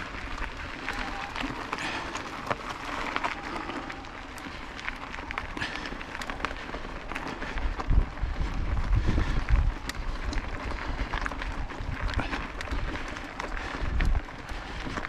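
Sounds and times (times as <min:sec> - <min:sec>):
bicycle tyres crunching on gravel: 0:00.0 - 0:15.0
wind buffeting microphone: 0:00.0 - 0:15.0.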